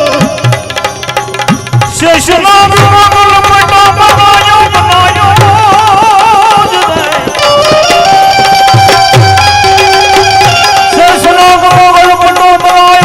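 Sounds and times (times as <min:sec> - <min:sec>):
melody instrument with vibrato: 0:00.0 - 0:12.1
sharp percussion strokes: 0:00.0 - 0:13.0
tabla beat: 0:00.0 - 0:13.0.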